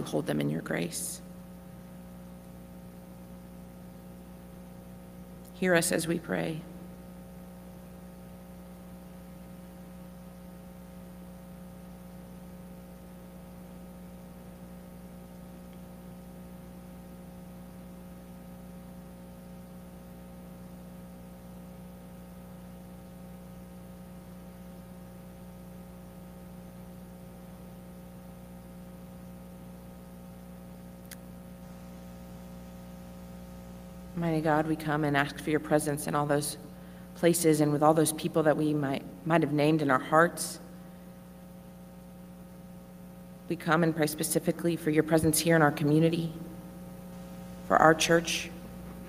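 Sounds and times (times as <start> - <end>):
electrical mains hum: 0.0 - 49.0.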